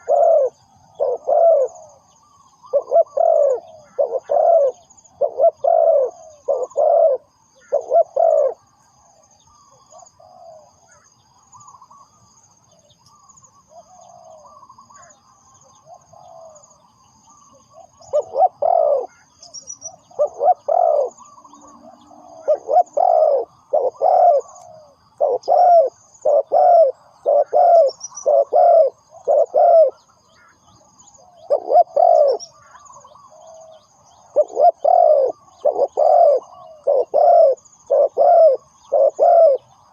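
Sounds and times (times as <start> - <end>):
dove cooing: 0.0 - 12.1, 13.1 - 39.9
faint high-pitched chirping: 0.0 - 39.9.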